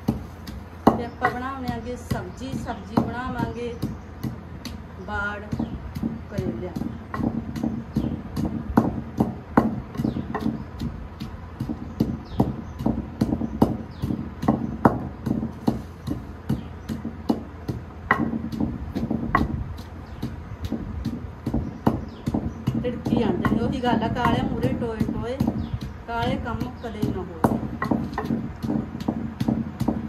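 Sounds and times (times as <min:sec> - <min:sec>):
pestle pounding in mortar: 0:00.0 - 0:30.0.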